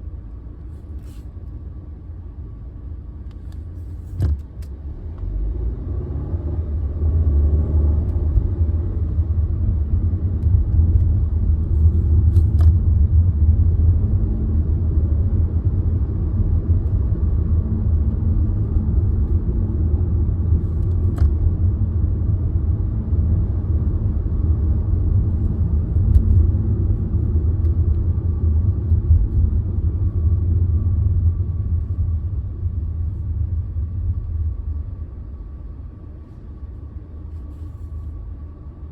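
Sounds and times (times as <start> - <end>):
car engine rumble inside cabin: 0.0 - 38.9.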